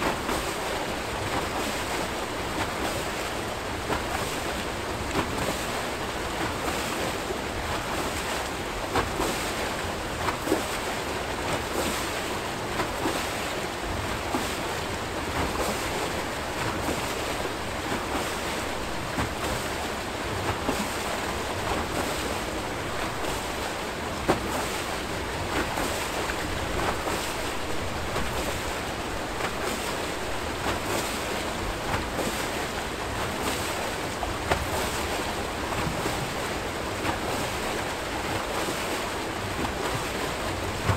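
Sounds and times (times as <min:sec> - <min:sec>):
water rushing and churning: 0:00.0 - 0:40.9.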